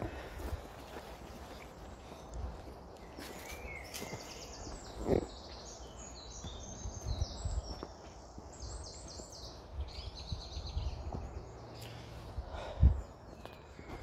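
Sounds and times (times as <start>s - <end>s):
footsteps on dirt path: 0.0s - 14.0s
birds trilling: 1.4s - 14.0s.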